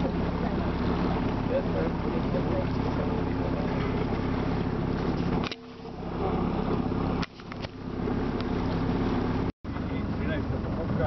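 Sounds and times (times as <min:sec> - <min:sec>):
boat engine running: 0:00.0 - 0:11.0
water noise: 0:00.0 - 0:11.0
wind: 0:00.0 - 0:11.0.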